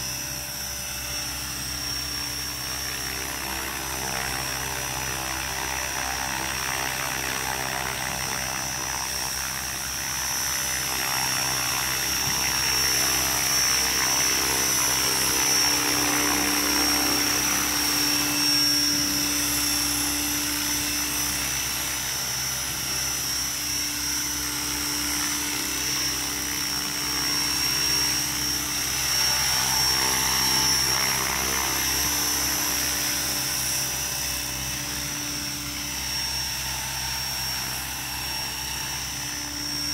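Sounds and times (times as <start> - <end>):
helicopter rotor noise: 0.0 - 39.9
rc helicopter motor whine: 0.0 - 39.9.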